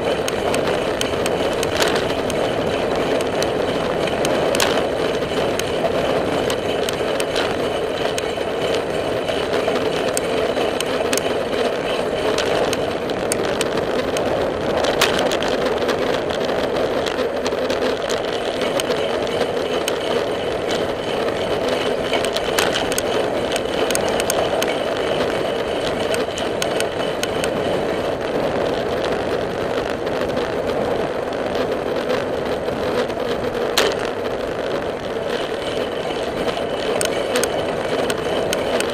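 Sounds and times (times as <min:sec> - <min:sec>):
bicycle clicks and rattles: 0:00.0 - 0:38.9
bicycle tyre road noise: 0:00.0 - 0:38.9.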